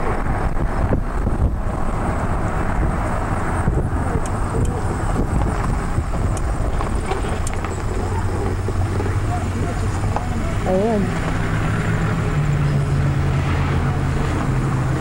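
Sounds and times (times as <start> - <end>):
car interior engine and tyre rumble: 0.0 - 15.0.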